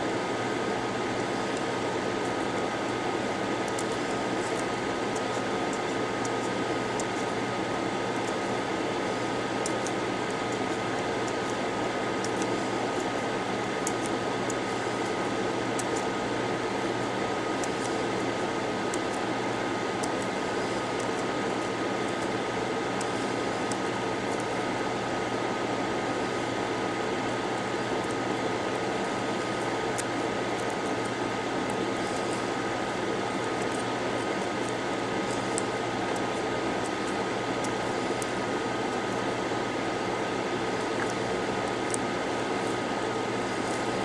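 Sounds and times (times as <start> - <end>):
small electric fan whirring: 0.0 - 44.0.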